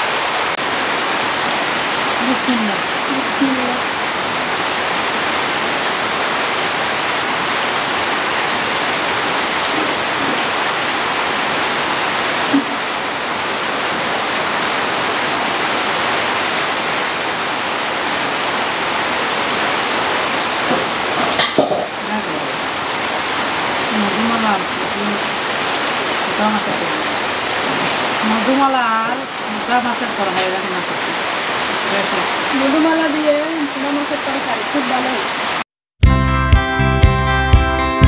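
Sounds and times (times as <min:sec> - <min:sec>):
rushing water: 0:00.0 - 0:35.7.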